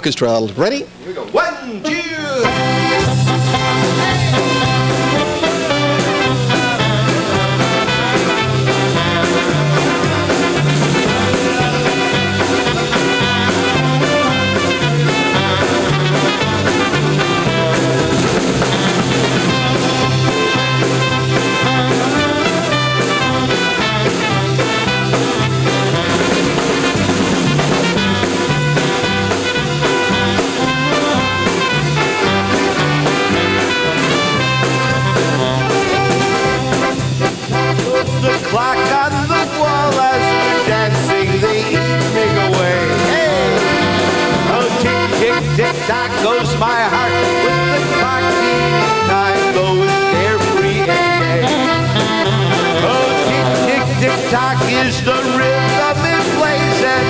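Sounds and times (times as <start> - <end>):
polka band playing: 0.0 - 57.0
upright bass alternating notes: 1.7 - 57.0.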